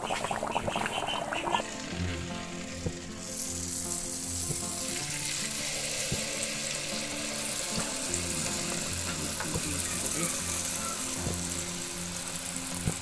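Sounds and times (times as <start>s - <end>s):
background music: 0.0s - 13.0s
batter deep-frying in hot oil: 0.0s - 13.0s.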